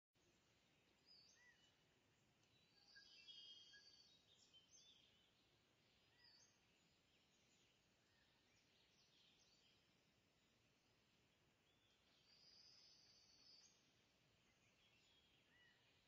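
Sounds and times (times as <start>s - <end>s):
faint birds chirping: 0.2s - 16.0s.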